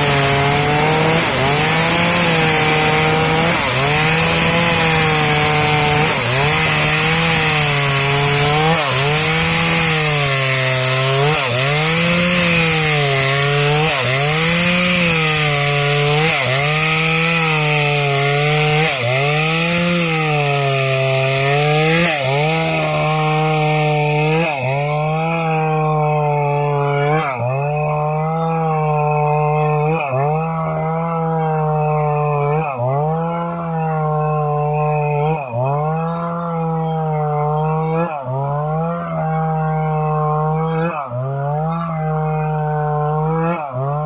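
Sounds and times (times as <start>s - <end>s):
chainsaw cutting through log: 0.0s - 44.0s.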